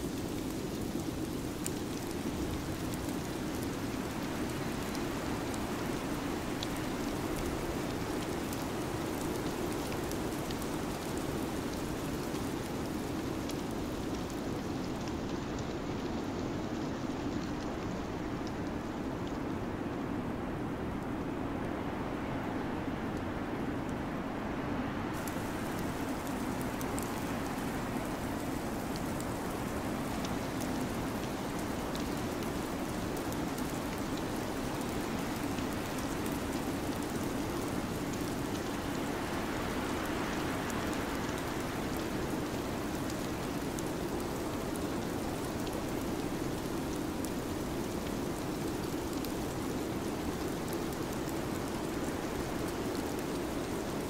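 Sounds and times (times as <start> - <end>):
rain-like hiss: 0.0 - 54.0.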